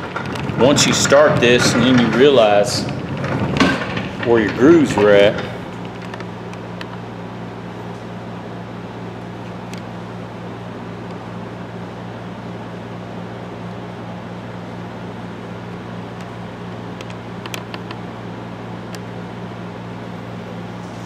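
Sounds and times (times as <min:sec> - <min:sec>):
mechanical motor hum: 0:00.0 - 0:21.0.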